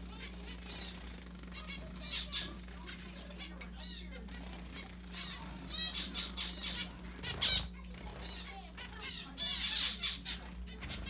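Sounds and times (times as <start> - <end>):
fledgling finch chirping: 0.0 - 11.0.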